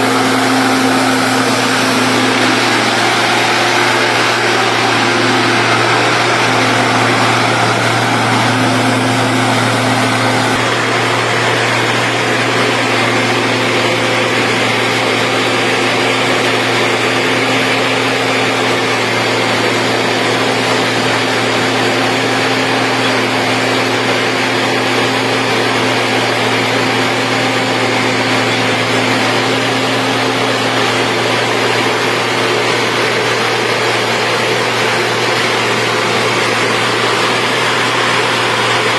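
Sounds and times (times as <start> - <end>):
machine engine running: 0.0 - 38.9.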